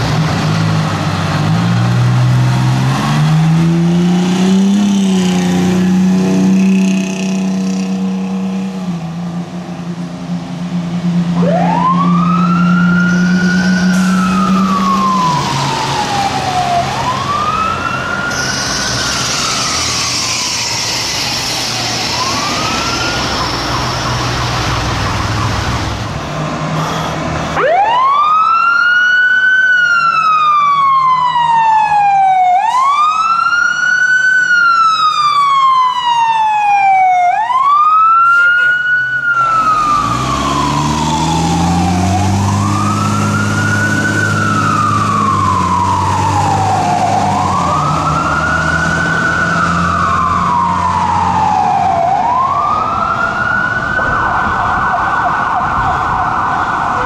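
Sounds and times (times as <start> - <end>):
truck engine rumbling: 0.0 - 28.8, 36.4 - 57.0
fire truck siren wailing: 0.0 - 57.0
traffic noise: 0.0 - 57.0.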